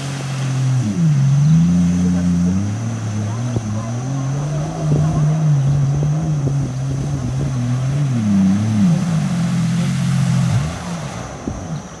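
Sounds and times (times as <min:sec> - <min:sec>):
jet ski engine passing: 0:00.0 - 0:12.0.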